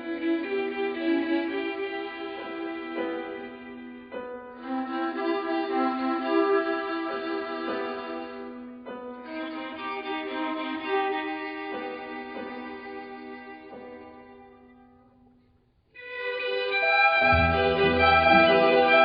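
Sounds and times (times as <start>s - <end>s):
bowed string music with violin: 0.0s - 14.9s, 16.0s - 19.0s.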